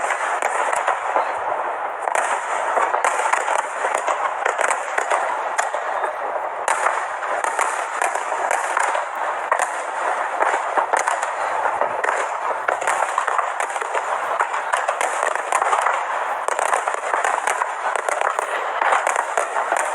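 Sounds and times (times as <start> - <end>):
fireworks crackling and popping: 0.0 - 19.9.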